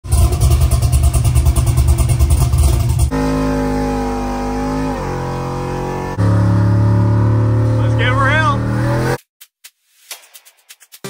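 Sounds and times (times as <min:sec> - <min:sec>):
truck engine rumbling: 0:00.0 - 0:09.2.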